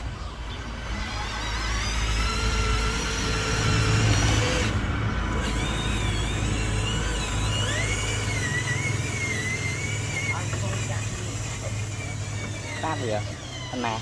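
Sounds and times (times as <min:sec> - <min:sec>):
toy truck motor whining: 0:00.0 - 0:14.0.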